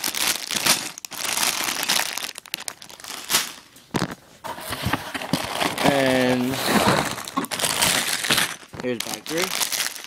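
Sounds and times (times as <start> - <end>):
plastic bag crinkling: 0.0 - 4.2, 5.3 - 10.0.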